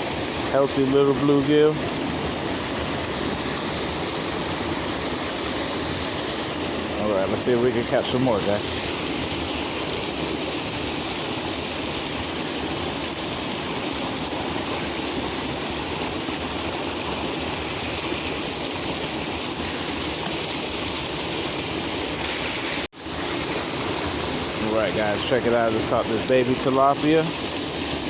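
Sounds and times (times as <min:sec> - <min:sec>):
flowing creek water: 0:00.0 - 0:28.0.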